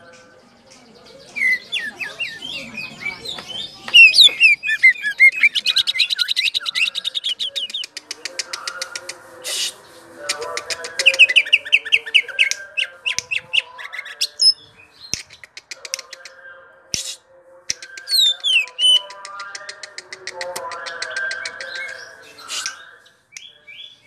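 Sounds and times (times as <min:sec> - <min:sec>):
bird singing varied song: 0:00.0 - 0:24.0.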